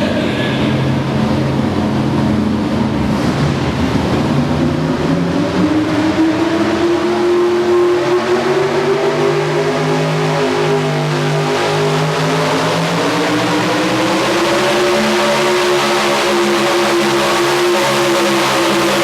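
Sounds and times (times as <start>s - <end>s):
vehicle engine at high revs: 0.0s - 19.0s.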